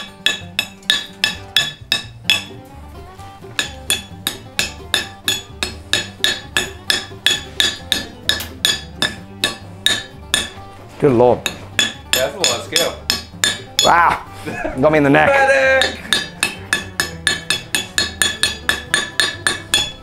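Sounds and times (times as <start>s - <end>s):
hammer striking steel on anvil: 0.0s - 2.6s, 3.4s - 10.6s, 11.4s - 14.0s, 15.8s - 20.0s.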